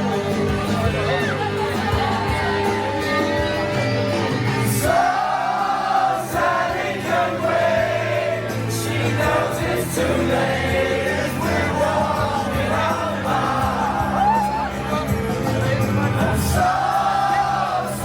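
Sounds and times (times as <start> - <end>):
crowd singing along: 0.0 - 18.0
loud party music: 0.0 - 18.0.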